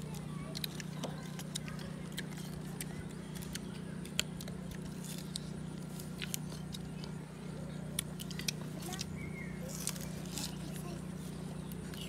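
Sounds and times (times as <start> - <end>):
fruit crunching while chewed: 0.0 - 7.2, 7.8 - 12.0
steady low hum: 0.0 - 12.0.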